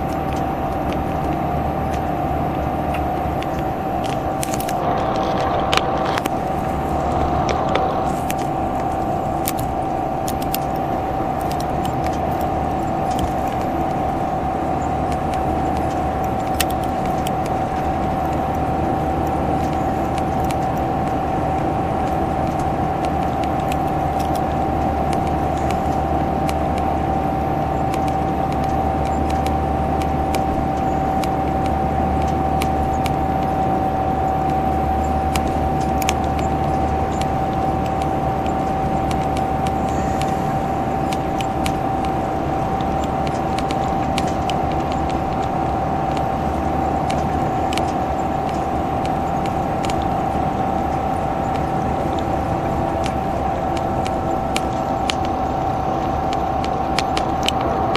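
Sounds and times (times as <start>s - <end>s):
bus engine roaring: 0.0s - 57.9s
high whine: 0.0s - 57.9s.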